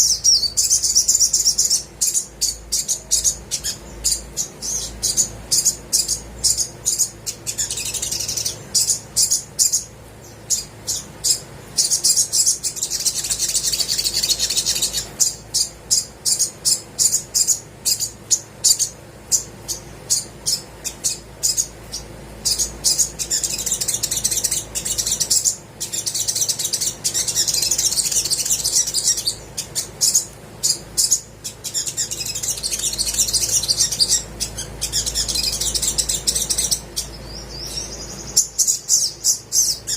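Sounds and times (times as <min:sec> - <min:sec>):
sunbird high twittering: 0:00.0 - 0:39.9.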